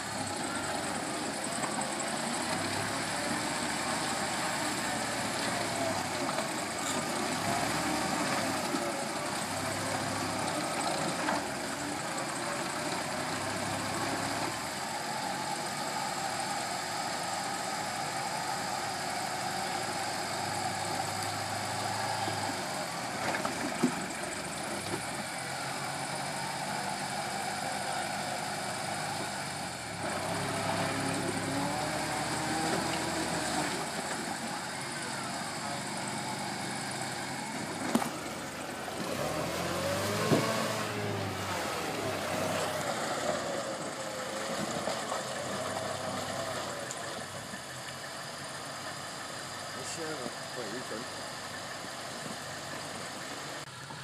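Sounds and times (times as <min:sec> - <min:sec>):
truck engine at low revs: 0:00.0 - 0:54.0.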